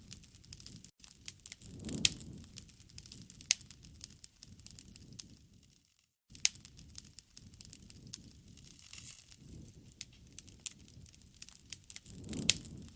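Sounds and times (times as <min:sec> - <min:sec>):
fire crackling and popping: 0:00.0 - 0:12.9
low rumble of fire: 0:00.0 - 0:12.9.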